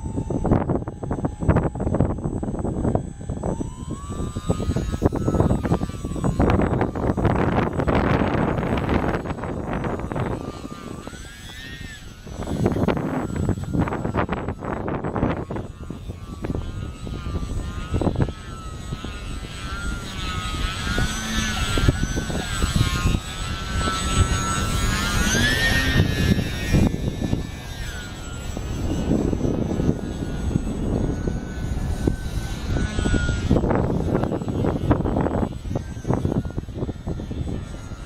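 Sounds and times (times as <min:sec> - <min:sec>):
model plane motor whine: 0:00.0 - 0:38.0
wind buffeting microphone: 0:00.0 - 0:38.0.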